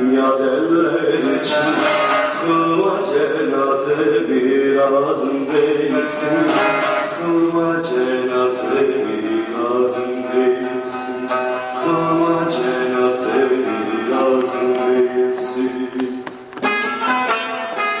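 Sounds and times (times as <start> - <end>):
long-necked lute playing: 0.0 - 15.8, 16.6 - 18.0
man singing long notes: 0.0 - 16.4.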